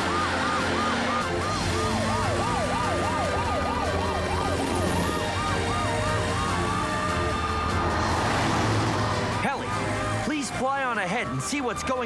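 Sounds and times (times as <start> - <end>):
emergency sirens wailing: 0.0 - 12.0.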